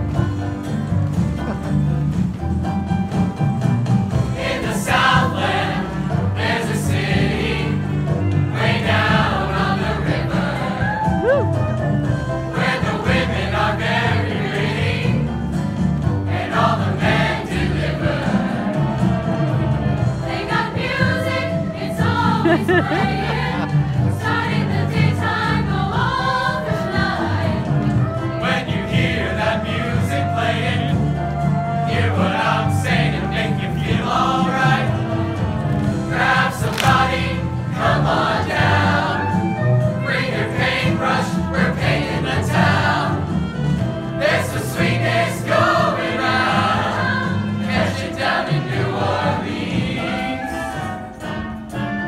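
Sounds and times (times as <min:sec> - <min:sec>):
instrumental accompaniment with bass: 0:00.0 - 0:52.0
mixed chorus singing: 0:04.1 - 0:11.5, 0:12.1 - 0:51.7.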